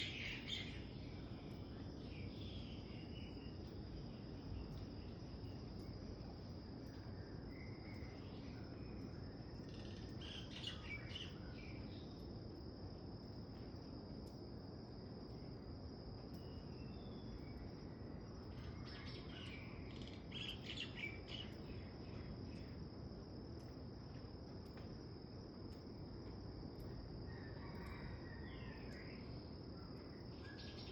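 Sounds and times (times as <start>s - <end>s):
high-pitched insect trill: 0.0s - 24.8s, 26.7s - 30.9s
low background hiss: 0.0s - 30.9s.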